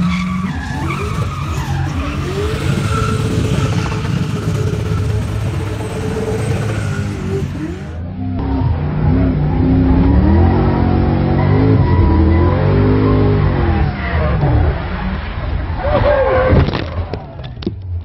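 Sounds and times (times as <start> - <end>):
car engine revving: 0.0 - 15.7
tyres skidding and squealing: 0.0 - 17.6.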